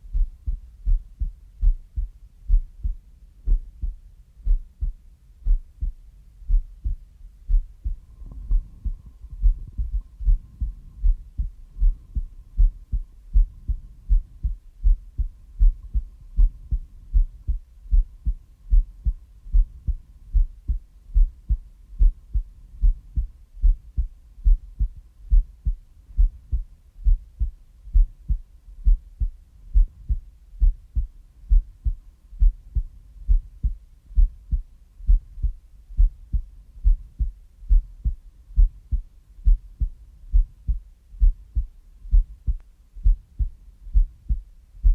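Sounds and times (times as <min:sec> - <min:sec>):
heartbeat thumps: 0:00.0 - 0:44.9.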